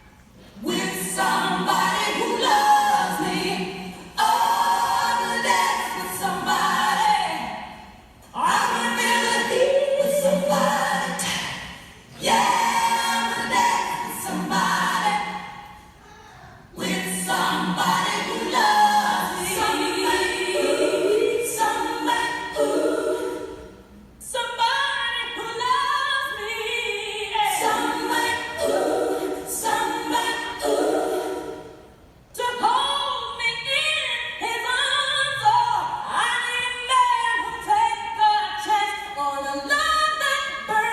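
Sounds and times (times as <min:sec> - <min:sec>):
a cappella group singing: 0:00.4 - 0:16.0, 0:16.7 - 0:40.9.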